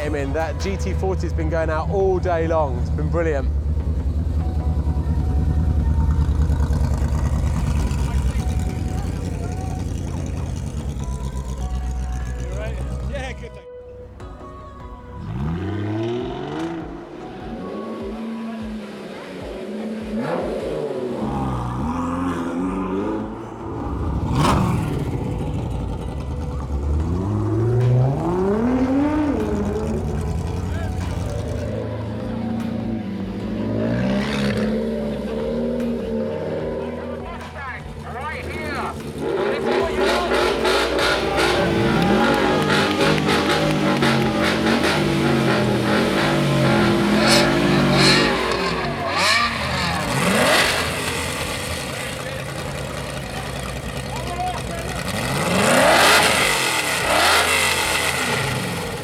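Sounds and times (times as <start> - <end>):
sports car engine accelerating: 0.0 - 59.0.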